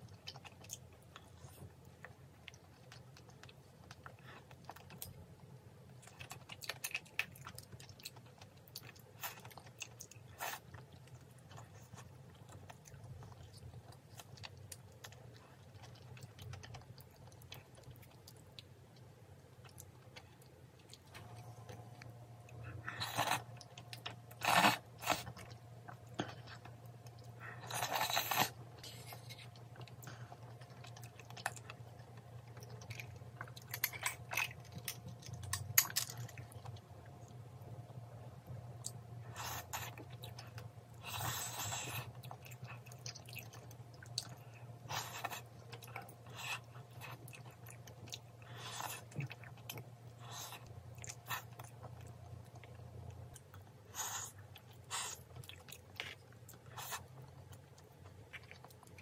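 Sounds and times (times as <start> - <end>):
faint low hum: 0.0 - 59.0
person chewing food: 0.0 - 59.0.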